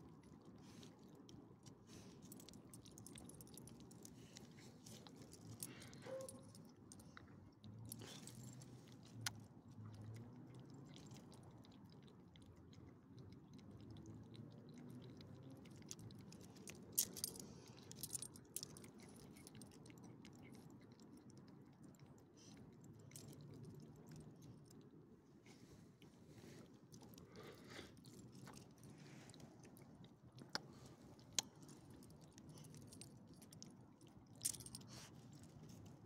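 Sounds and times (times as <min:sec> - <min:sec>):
dog chewing and crunching food: 0:00.0 - 0:36.0.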